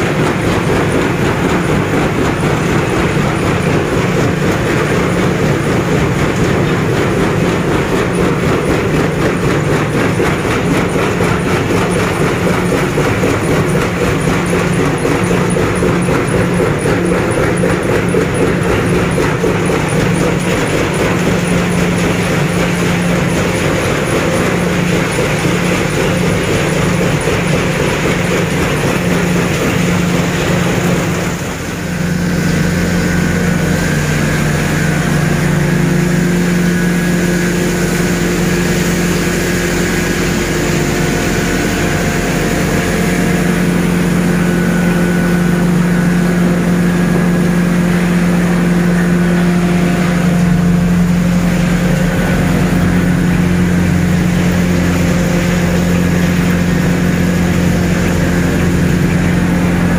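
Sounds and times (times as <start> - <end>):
wood crusher machine noise: 0.0 - 59.9.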